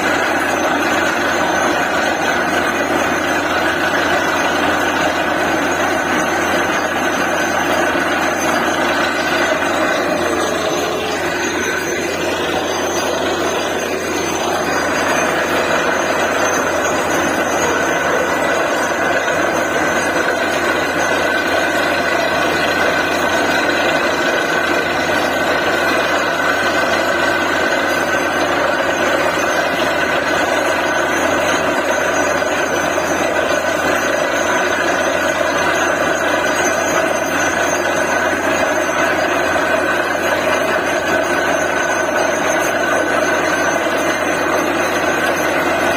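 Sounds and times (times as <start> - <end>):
constant machine whine: 0.0 - 45.9
drilling rig engine running: 0.0 - 45.9.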